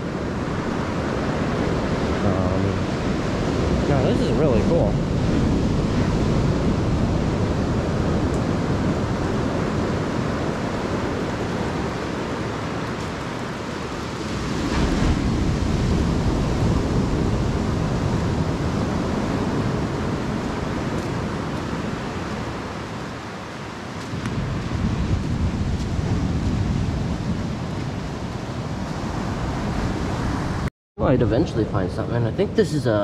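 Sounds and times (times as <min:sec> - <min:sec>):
ocean surf washing on shore: 0:00.0 - 0:30.7
wind buffeting microphone: 0:00.0 - 0:32.8.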